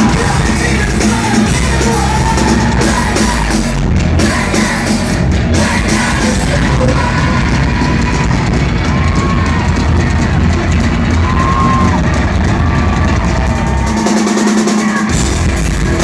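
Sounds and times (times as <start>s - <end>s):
distorted guitars: 0.0s - 16.0s
drums: 0.0s - 16.0s
live rock band playing: 0.0s - 16.0s.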